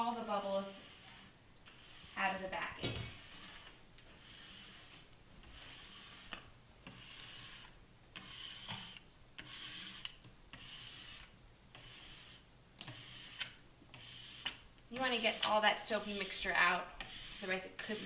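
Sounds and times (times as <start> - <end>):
squeegee rubbing over wet plastic: 0.0 - 18.0.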